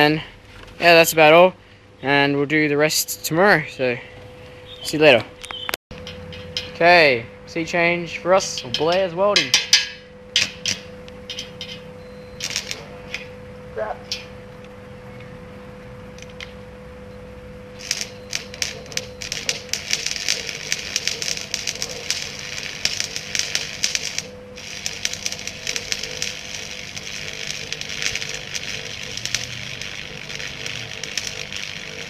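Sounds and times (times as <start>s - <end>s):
welder hum: 4.6s - 32.0s
welding arc crackling: 4.9s - 14.8s, 16.0s - 32.0s.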